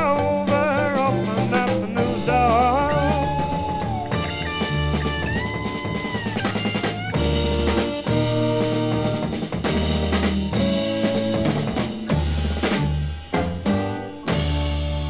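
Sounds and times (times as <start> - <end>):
instrumental blues-rock band: 0.0 - 15.0.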